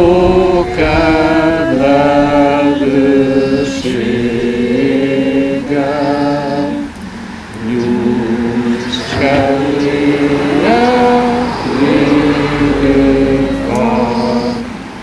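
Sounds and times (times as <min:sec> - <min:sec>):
group singing solemn song: 0:00.0 - 0:15.0.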